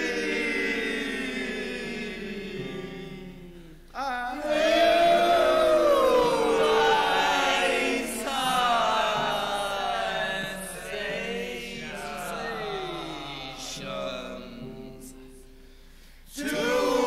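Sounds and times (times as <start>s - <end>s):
voices chanting in long tones: 0.0s - 17.0s.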